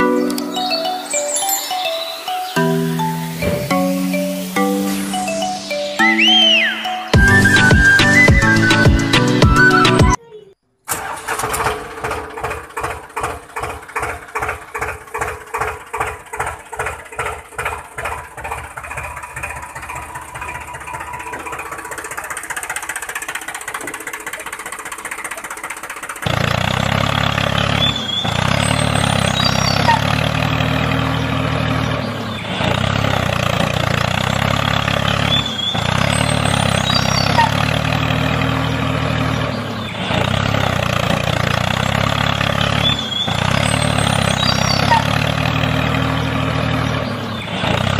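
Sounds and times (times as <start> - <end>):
tractor engine chugging: 6.2 - 10.2, 10.9 - 47.9.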